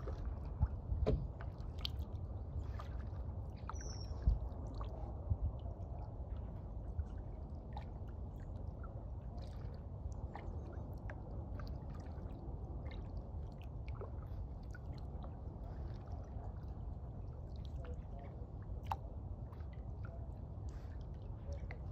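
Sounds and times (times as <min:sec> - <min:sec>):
low steady rumble: 0:00.0 - 0:21.9
water drips and gurgles: 0:00.0 - 0:21.9.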